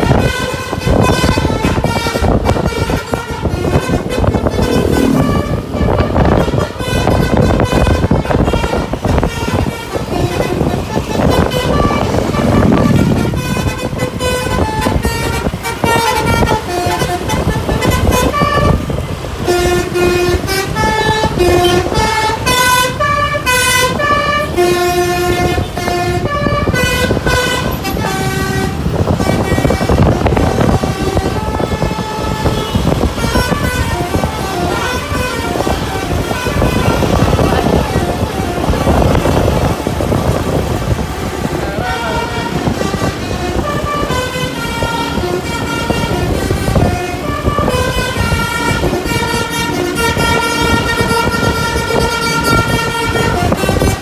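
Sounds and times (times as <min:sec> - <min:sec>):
bus engine running: 0:00.0 - 0:54.0
bus horn playing a melody: 0:00.0 - 0:54.0
road noise: 0:00.0 - 0:54.0.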